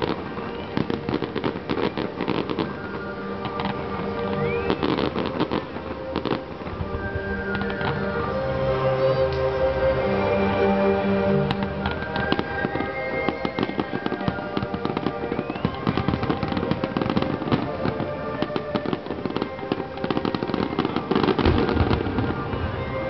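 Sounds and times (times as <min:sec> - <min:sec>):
fireworks crackling and popping: 0:00.0 - 0:09.5, 0:11.3 - 0:23.0
music playing: 0:00.0 - 0:23.0.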